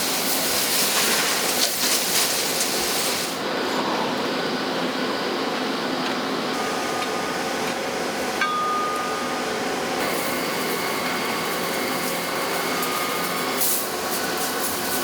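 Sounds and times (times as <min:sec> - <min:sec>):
factory machinery whining: 0:00.0 - 0:15.0.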